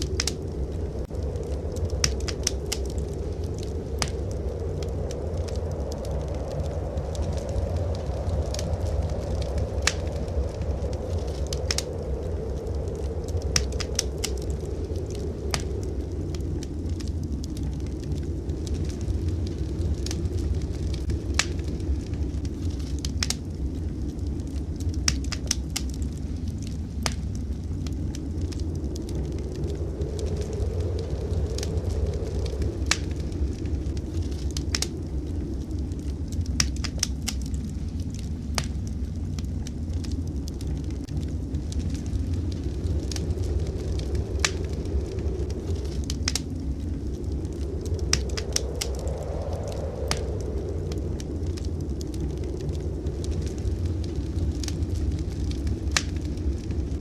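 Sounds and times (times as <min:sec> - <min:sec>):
fire pops and snaps: 0:00.0 - 0:57.0
steady low rumble: 0:00.0 - 0:57.0
wood fire crackling: 0:00.0 - 0:57.0.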